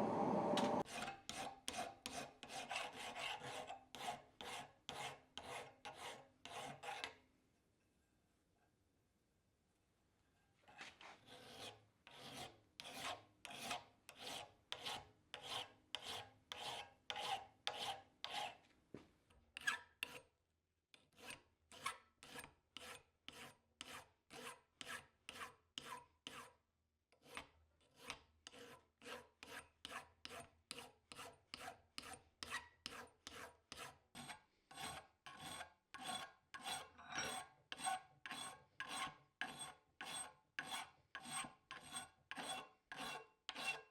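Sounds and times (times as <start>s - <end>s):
file rasping on steel blade: 0.7s - 7.2s, 11.2s - 18.6s, 19.6s - 20.3s, 21.0s - 26.6s, 27.2s - 43.9s.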